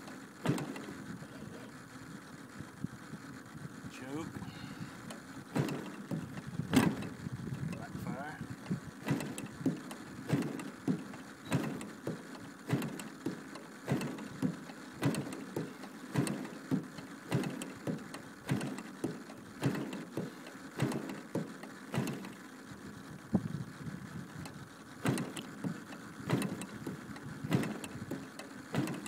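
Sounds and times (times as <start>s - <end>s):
engine turning over without starting: 0.0s - 29.0s.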